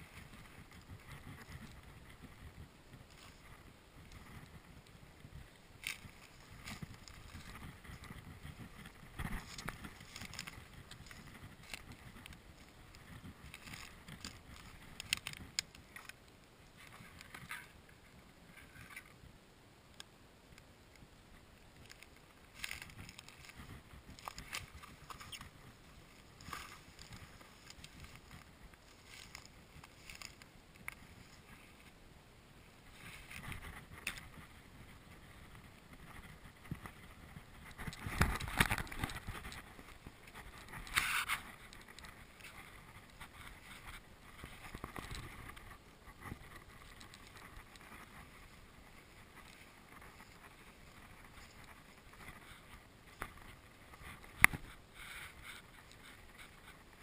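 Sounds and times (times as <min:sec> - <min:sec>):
dry reeds rustling underfoot: 0:00.0 - 0:19.3, 0:20.0 - 0:57.0
faint wind: 0:00.0 - 0:57.0.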